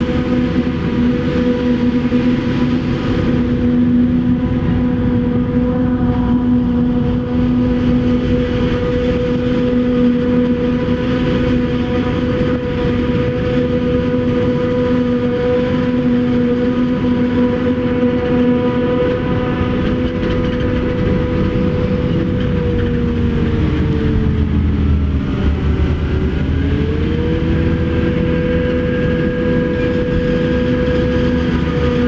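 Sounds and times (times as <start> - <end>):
harvester engine drone: 0.0 - 32.0
high machinery whines: 0.0 - 32.0
machinery hum: 0.0 - 32.0.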